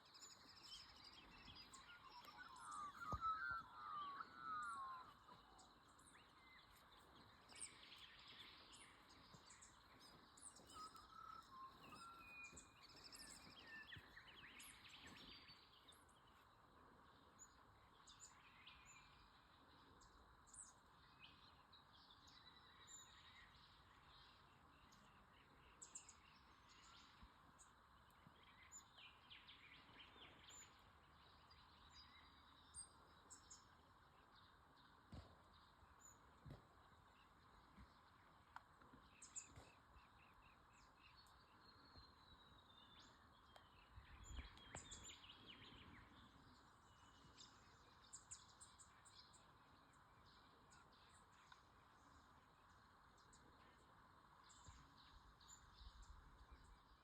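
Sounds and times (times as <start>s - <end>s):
faint bird chirps: 0.0s - 57.0s.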